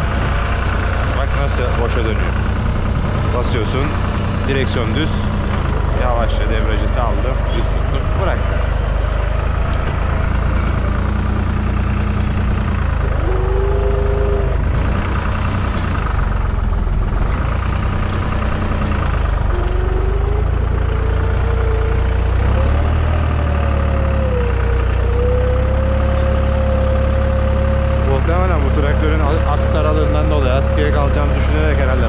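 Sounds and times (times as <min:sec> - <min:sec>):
tractor diesel engine running: 0:00.0 - 0:32.0
whining tone: 0:00.0 - 0:32.0.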